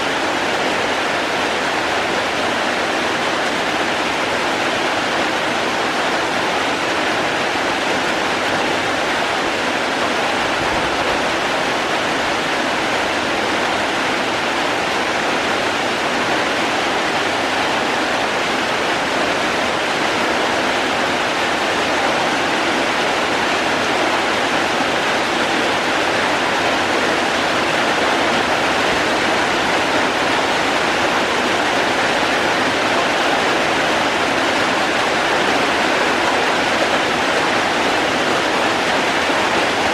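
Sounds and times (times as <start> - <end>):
rushing running water: 0.0 - 39.9
steady rain: 0.0 - 39.9.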